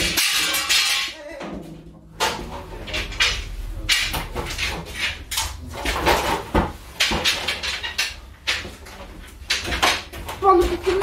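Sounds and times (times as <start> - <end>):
objects knocking and clattering: 0.0 - 11.0.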